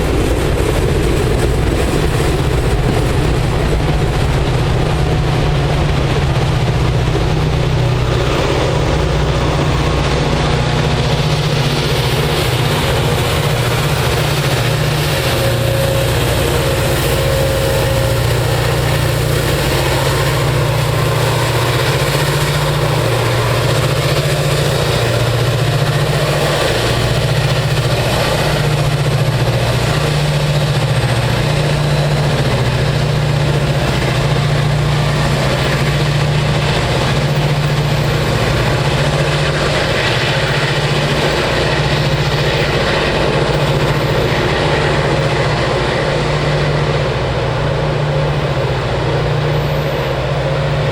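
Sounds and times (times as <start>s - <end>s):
diesel locomotive engine drone: 0.0s - 50.9s
low wavering hum: 0.0s - 50.9s.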